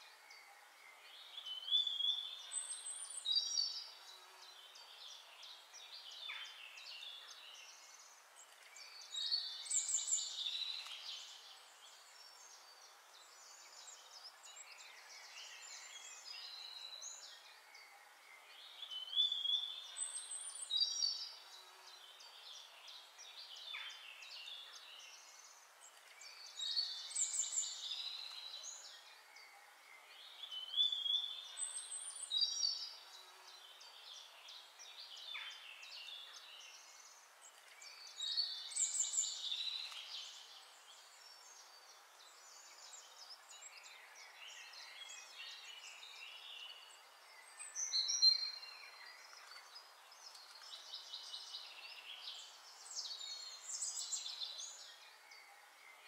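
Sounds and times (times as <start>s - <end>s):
faint steady hiss: 0.0s - 56.0s
songbirds chirping and trilling: 0.0s - 56.0s.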